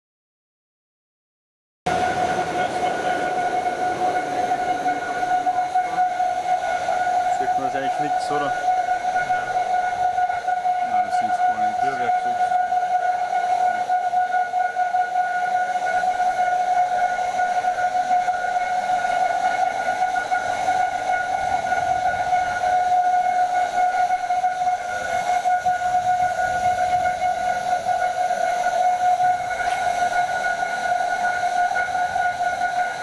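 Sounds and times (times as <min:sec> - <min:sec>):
machinery whistling whine: 0:01.9 - 0:33.0.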